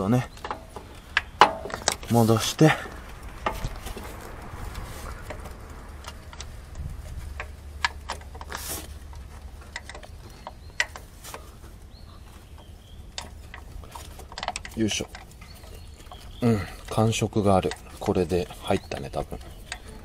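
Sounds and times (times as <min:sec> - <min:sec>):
scraping rustle: 0:00.0 - 0:20.0.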